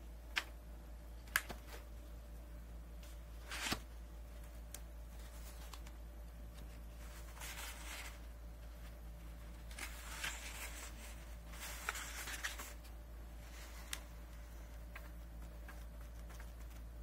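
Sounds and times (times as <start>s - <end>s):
low steady hum: 0.0s - 17.0s
book pages turning: 3.0s - 17.0s.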